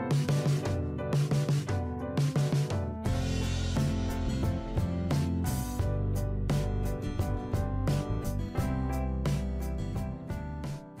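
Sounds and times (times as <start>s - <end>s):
music with beat and bass line: 0.0s - 11.0s.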